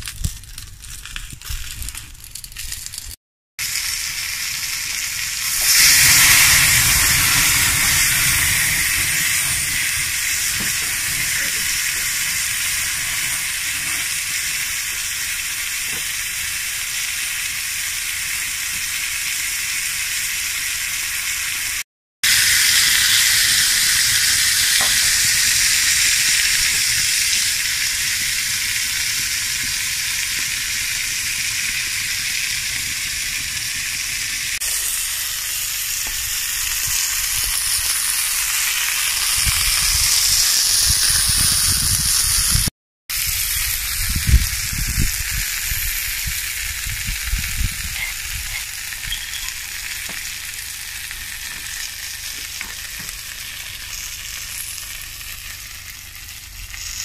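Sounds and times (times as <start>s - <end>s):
burger sizzling in a pan: 0.0s - 57.0s.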